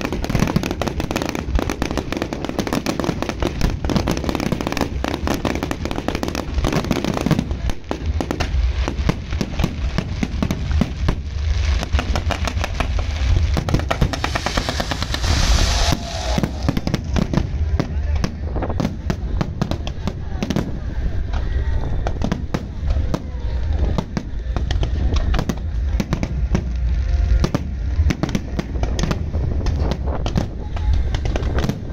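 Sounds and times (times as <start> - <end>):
deep fireworks booms: 0.0 - 31.9
fireworks bangs and crackles: 0.0 - 31.9
hissing crackle: 0.0 - 31.9.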